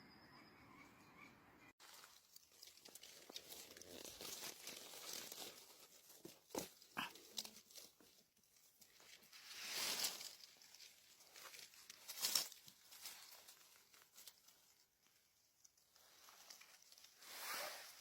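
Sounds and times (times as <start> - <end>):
leaf litter rustling and crackling: 1.8 - 18.0.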